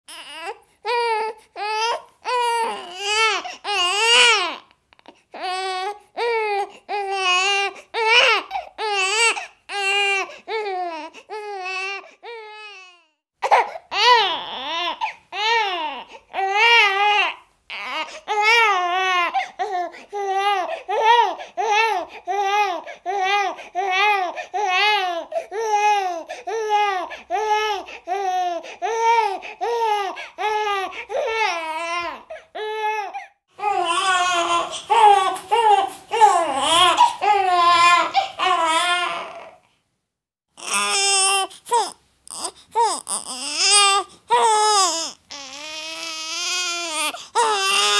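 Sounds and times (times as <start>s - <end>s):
baby crying: 0.1s - 39.7s, 40.6s - 47.9s.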